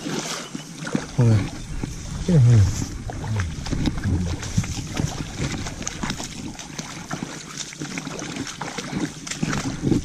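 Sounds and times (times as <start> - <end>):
boots wading through muddy water: 0.0 - 10.0.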